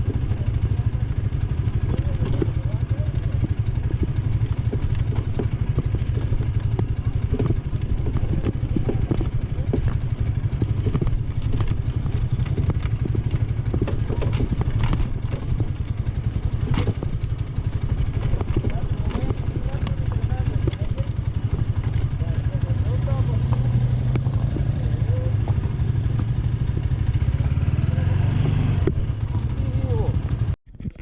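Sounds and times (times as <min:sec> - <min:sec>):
clicks and rattles: 0:00.0 - 0:27.0
motorcycle engine running: 0:00.0 - 0:30.6.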